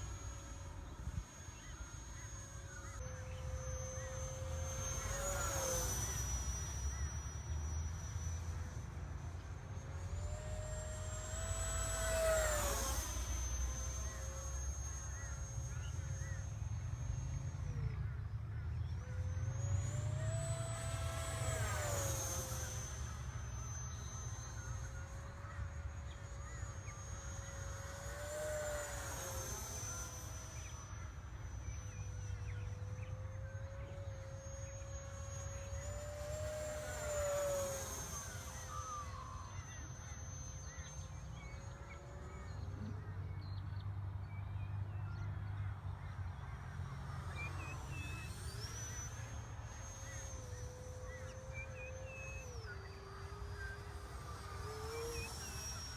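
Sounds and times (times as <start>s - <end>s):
model jet fan whining: 0.0s - 55.9s.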